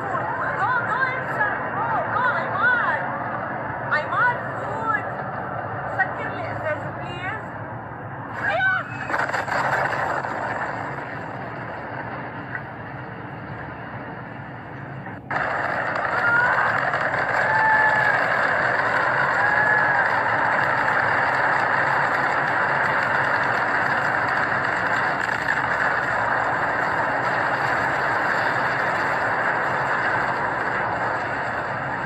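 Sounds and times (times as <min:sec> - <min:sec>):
loud rushing noise: 0:00.0 - 0:32.0.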